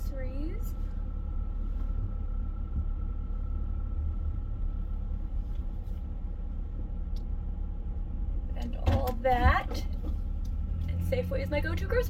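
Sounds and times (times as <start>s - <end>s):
car engine rumble from cabin: 0.0s - 12.0s.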